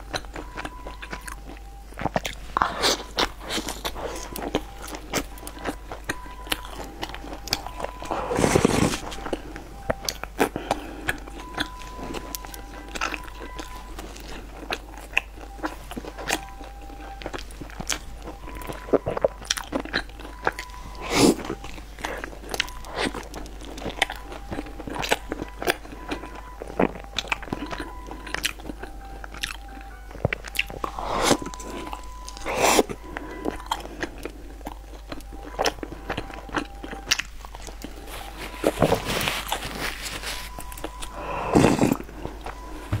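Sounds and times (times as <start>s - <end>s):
wet chewing mouth sounds: 0.0s - 43.0s.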